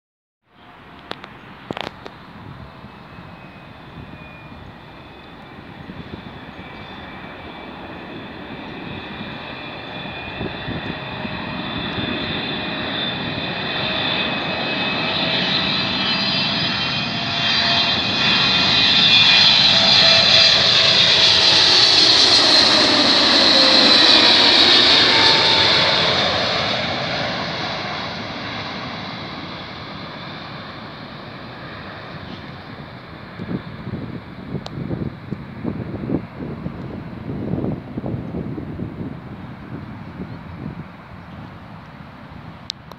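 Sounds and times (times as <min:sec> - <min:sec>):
jet airliner passing overhead: 0:00.5 - 0:42.9.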